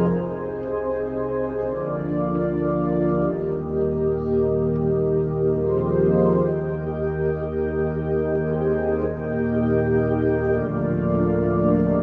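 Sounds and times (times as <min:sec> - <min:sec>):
ambient keyboard chords: 0:00.0 - 0:12.0.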